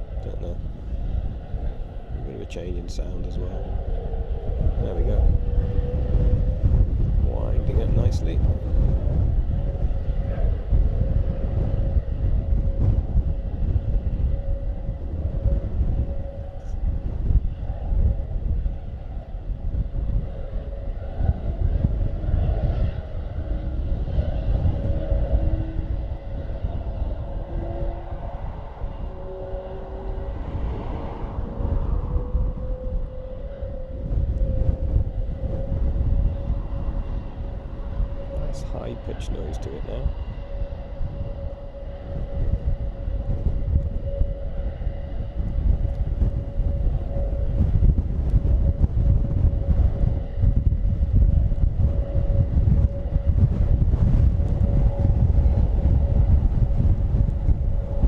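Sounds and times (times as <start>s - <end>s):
distant turboprop engines humming: 0.0s - 58.0s
wind buffeting on microphone: 0.0s - 58.0s.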